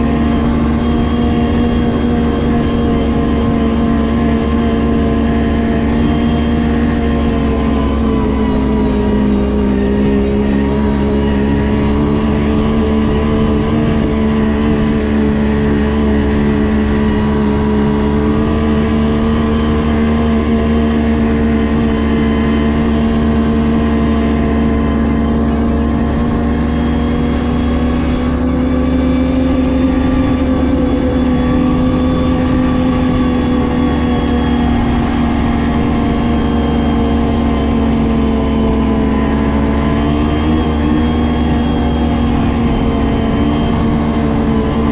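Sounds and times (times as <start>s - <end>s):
snowmobile engine cruising: 0.0s - 44.9s.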